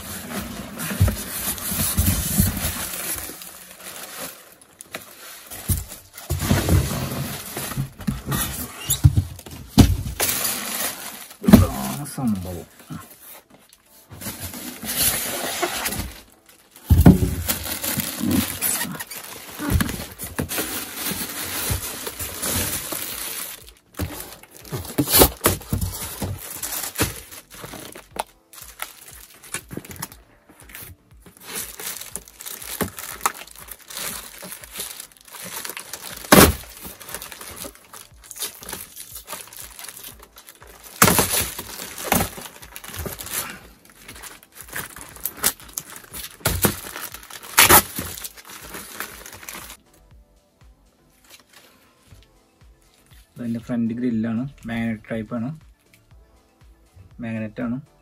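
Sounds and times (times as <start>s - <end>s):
packaging rustling: 0.0s - 49.8s.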